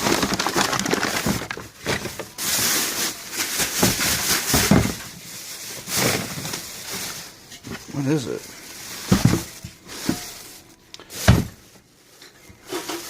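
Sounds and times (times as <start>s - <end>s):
rustling and crinkling packaging: 0.0s - 13.0s.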